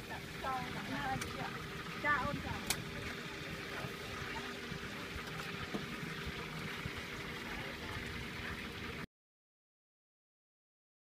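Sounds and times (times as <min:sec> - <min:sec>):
street market background noise: 0:00.0 - 0:09.1.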